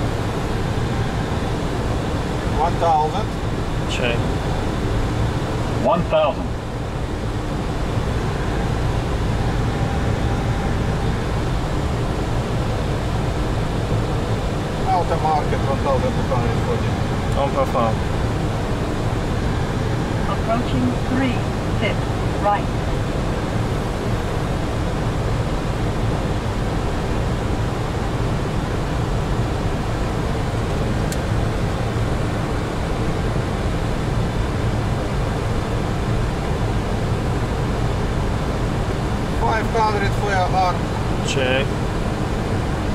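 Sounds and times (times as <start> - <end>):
airflow and jet engine noise: 0.0 - 42.9.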